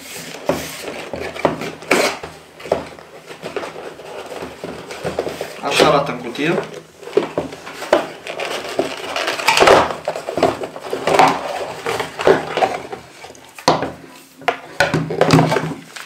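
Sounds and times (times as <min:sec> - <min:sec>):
cardboard packaging rustling: 0:00.0 - 0:16.0.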